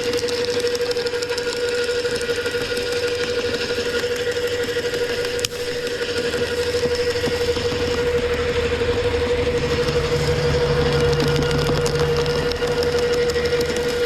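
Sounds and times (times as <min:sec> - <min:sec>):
wood chipper running: 0:00.0 - 0:14.0.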